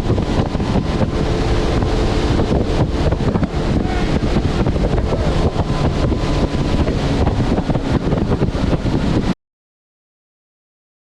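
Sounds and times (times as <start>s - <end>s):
boat engine running: 0.0s - 9.4s
water rushing: 0.0s - 9.4s
wind buffeting microphone: 0.0s - 9.4s.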